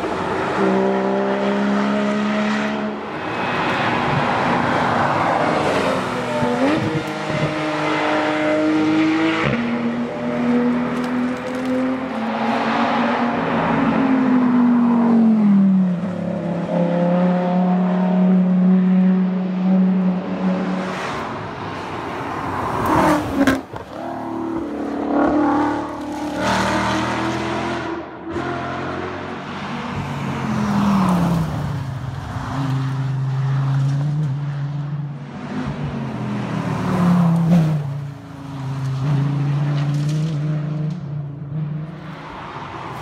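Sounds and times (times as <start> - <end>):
sports cars driving past: 0.0 - 43.0.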